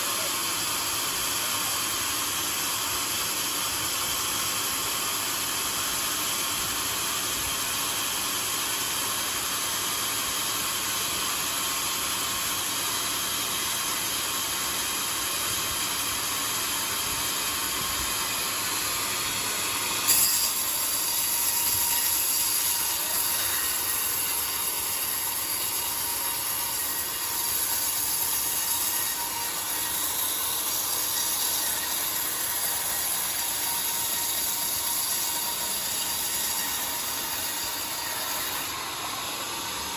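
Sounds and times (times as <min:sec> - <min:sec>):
sawmill whirring: 0:00.0 - 0:39.9.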